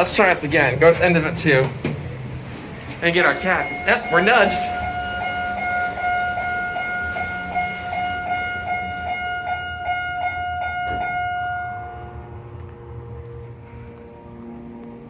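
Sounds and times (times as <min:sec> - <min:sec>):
elevator door buzzer: 0:00.0 - 0:15.0.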